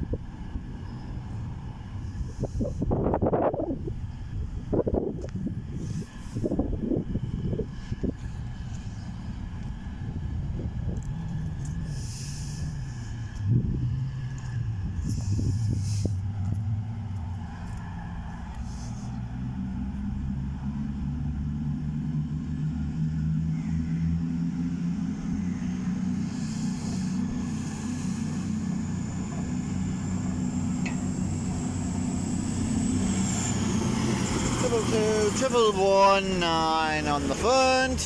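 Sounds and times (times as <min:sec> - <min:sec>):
diesel train engine drone: 0:00.0 - 0:38.0.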